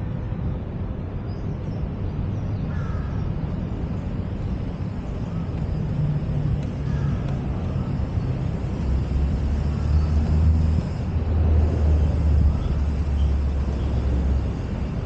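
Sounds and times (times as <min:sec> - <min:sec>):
vehicle engine rumble: 0:02.8 - 0:15.0.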